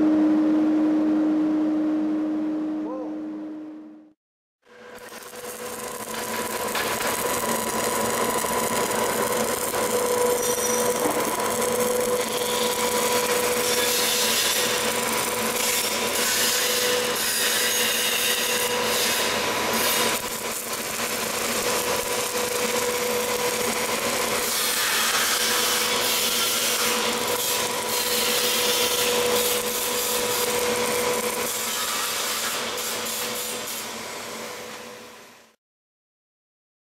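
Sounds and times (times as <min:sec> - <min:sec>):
fog machine hissing and humming: 0:04.8 - 0:35.3.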